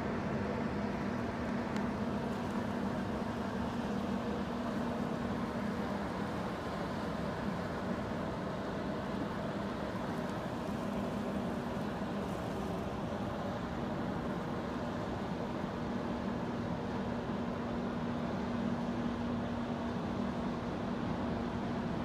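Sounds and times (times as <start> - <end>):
ship engine drone: 0.0 - 22.0
wind and water hiss: 0.0 - 22.0.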